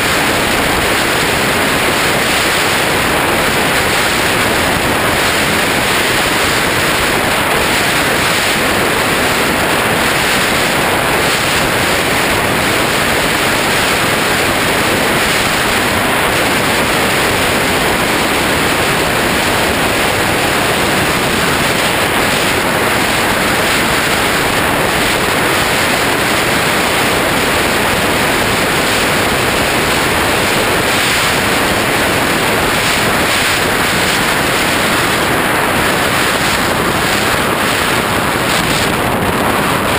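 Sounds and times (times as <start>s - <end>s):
airflow rushing over camera: 0.0s - 39.9s.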